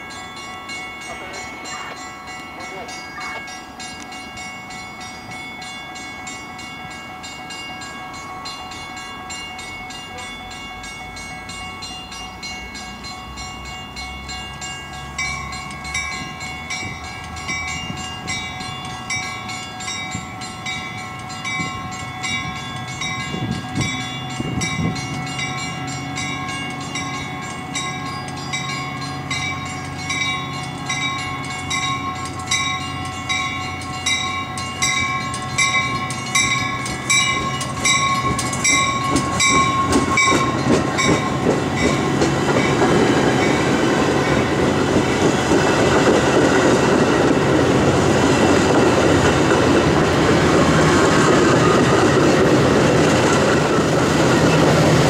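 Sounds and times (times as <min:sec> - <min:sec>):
bell ringing: 0:00.0 - 0:53.6
train rumbling: 0:00.0 - 0:55.0.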